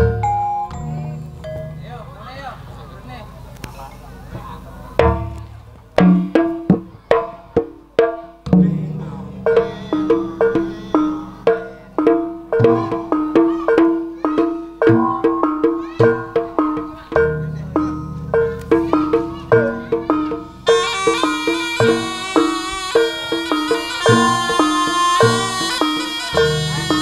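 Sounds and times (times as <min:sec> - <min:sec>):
gamelan bronze notes: 0:00.0 - 0:02.7, 0:04.9 - 0:27.0
sharp drum strokes: 0:05.0 - 0:27.0.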